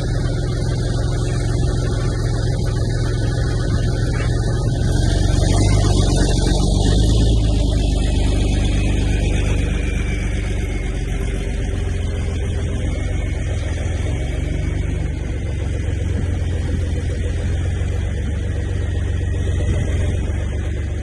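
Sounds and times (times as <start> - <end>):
machine humming steadily: 0.0 - 21.0.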